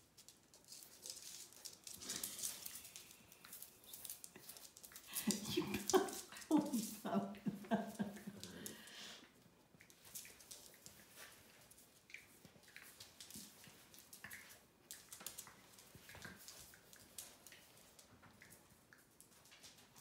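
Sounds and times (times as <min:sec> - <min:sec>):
puppies scuffling: 0:00.0 - 0:20.0.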